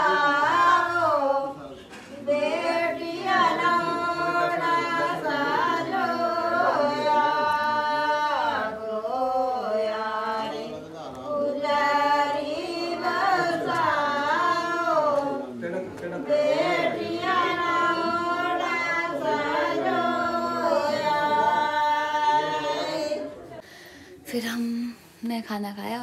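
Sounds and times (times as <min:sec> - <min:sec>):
voices singing: 0:00.0 - 0:23.6.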